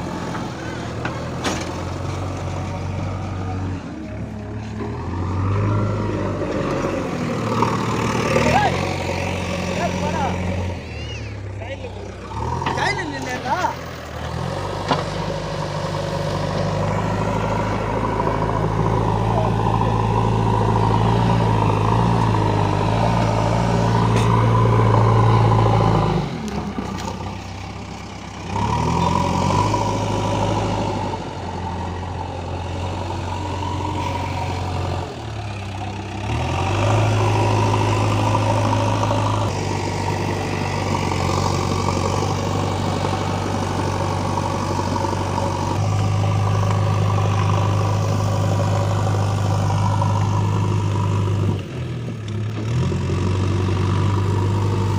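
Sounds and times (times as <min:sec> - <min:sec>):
diesel engine under load: 0:00.0 - 0:54.9.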